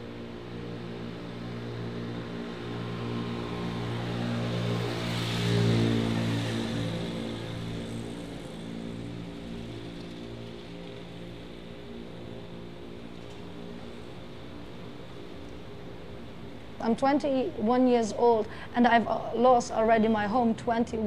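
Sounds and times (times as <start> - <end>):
motor scooter passing: 0.0 - 20.4
steady low hum: 0.0 - 21.0.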